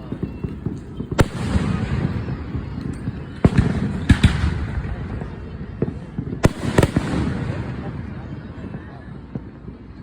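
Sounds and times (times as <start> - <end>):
fireworks bangs: 0.0 - 9.9
fireworks crackling: 0.0 - 10.0.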